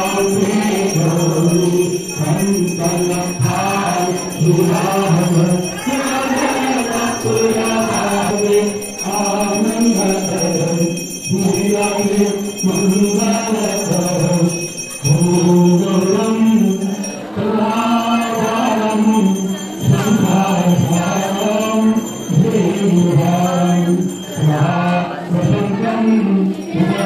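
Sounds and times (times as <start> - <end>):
bells ringing: 0.0 - 27.0
group singing a hymn: 0.0 - 27.0.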